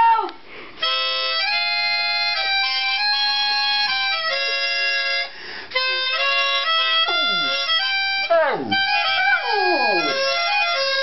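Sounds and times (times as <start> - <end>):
harmonica playing chords: 0.7 - 11.0.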